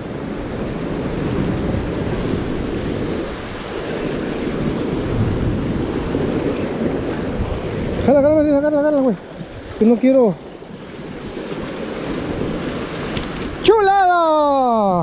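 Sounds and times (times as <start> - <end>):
wind buffeting microphone: 0.0 - 14.1
ocean surf: 0.0 - 15.0.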